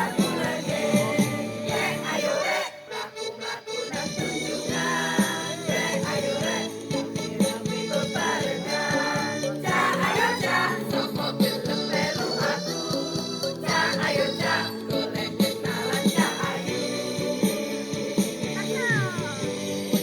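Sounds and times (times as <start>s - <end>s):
choir singing: 0.0s - 20.0s
musical accompaniment: 0.0s - 20.0s.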